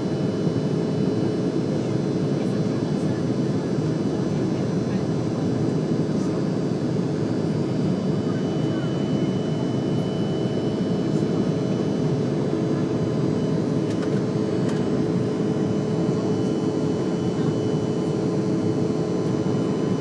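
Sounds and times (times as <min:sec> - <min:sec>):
airliner cabin engine drone: 0:00.0 - 0:20.0.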